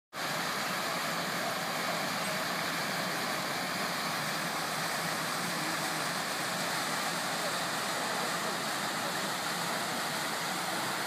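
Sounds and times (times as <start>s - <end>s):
fountain water splashing: 0.1s - 11.0s.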